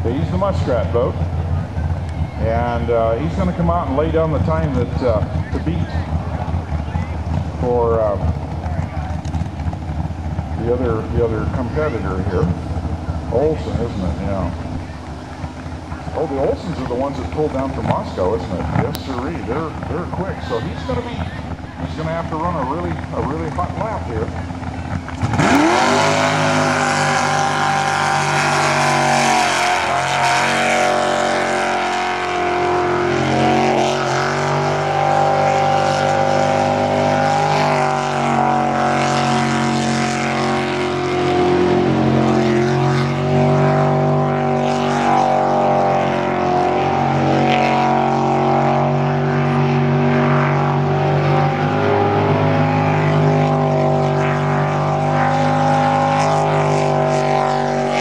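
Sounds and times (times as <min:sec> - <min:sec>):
boat engine revving: 0:00.0 - 0:58.0.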